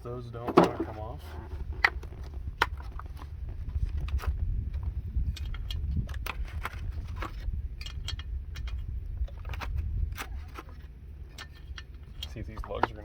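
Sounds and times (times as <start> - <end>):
steady low rumble: 0.0 - 13.0
clicks and knocks of handling: 0.4 - 13.0.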